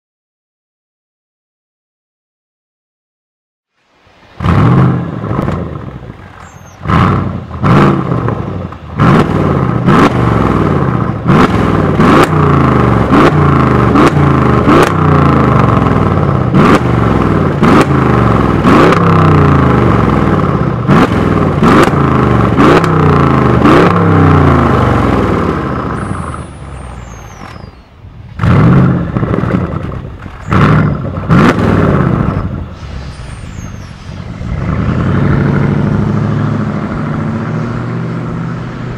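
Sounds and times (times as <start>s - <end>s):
car engine idling: 3.9s - 38.9s
car engine revving: 3.9s - 38.9s
exhaust cracks: 4.3s - 38.9s.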